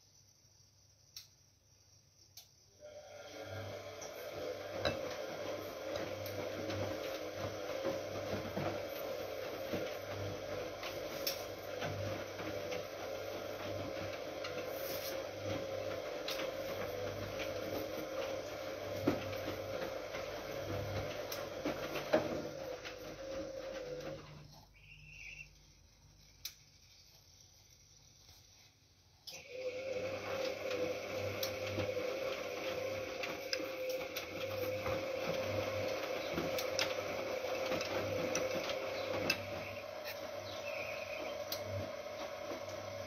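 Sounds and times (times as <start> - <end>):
washing machine drum motor whine: 2.2 - 43.0
laundry rubbing and knocking in drum: 3.7 - 25.9, 30.1 - 43.0.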